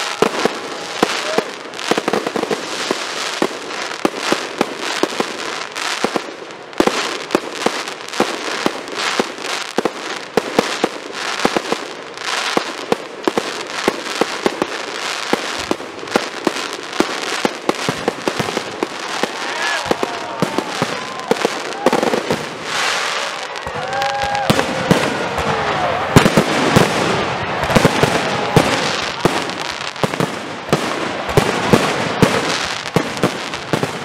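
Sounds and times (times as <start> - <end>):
firework crackle: 0.0 - 34.0.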